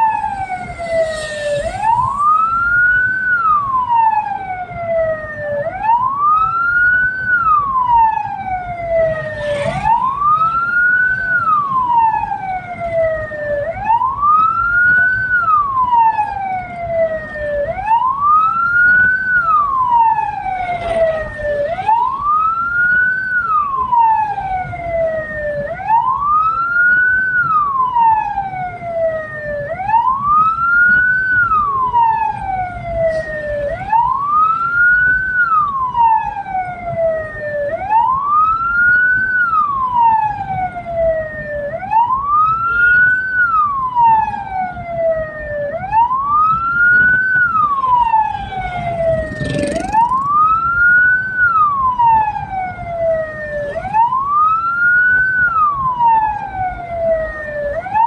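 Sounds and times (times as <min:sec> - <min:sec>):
siren wailing: 0:00.0 - 0:58.0
vehicle and road rumble: 0:00.0 - 0:58.0.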